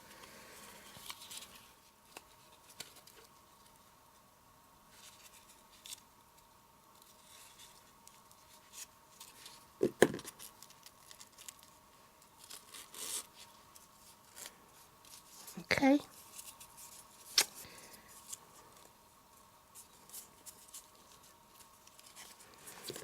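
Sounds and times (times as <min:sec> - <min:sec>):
ribbon rustling and scraping card: 0:00.1 - 0:03.7, 0:04.9 - 0:06.0, 0:06.9 - 0:19.0, 0:19.7 - 0:23.0.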